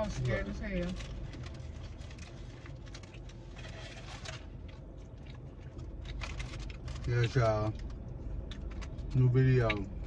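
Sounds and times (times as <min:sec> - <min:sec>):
food packaging clicks and rustles: 0:00.0 - 0:09.9
low steady hum: 0:00.0 - 0:10.0
chewing: 0:00.1 - 0:10.0.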